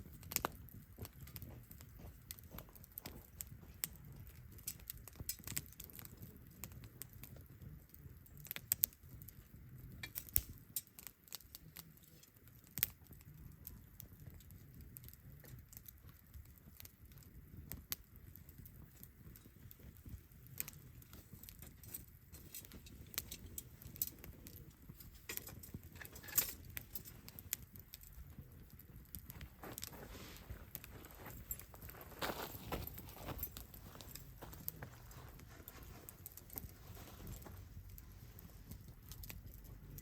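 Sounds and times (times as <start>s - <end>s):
campfire crackling: 0.0s - 40.0s
fire low rumble: 0.0s - 40.0s.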